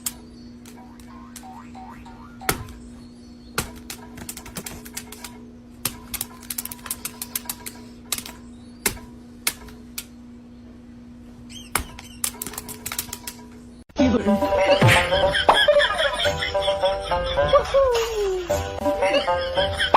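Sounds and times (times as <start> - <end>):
steady hum: 0.0 - 17.2.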